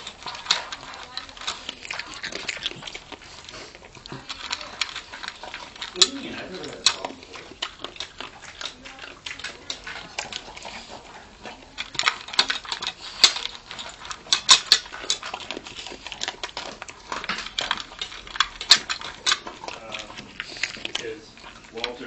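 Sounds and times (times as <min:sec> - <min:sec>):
dog crunching food: 0:00.0 - 0:22.0
teeth clinking on metal bowl: 0:00.0 - 0:22.0.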